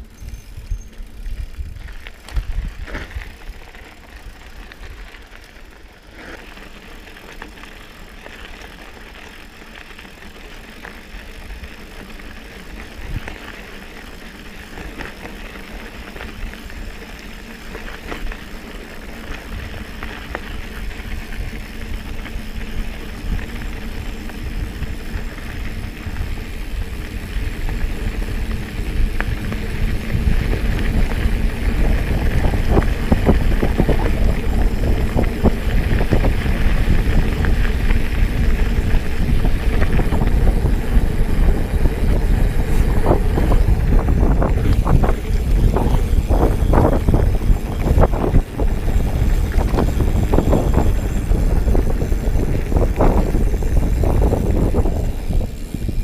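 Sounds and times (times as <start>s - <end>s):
wind rumbling on microphone: 0.0s - 5.5s, 9.7s - 56.0s
bike rattling: 0.0s - 56.0s
bike tyres on road and gravel: 0.0s - 56.0s.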